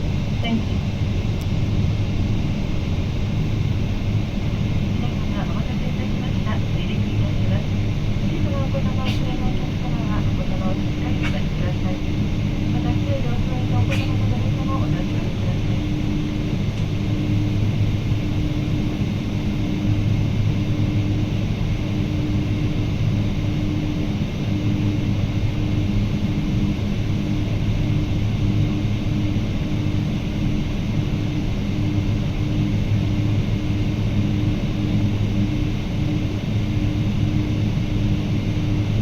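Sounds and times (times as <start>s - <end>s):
airliner engine drone: 0.0s - 39.0s.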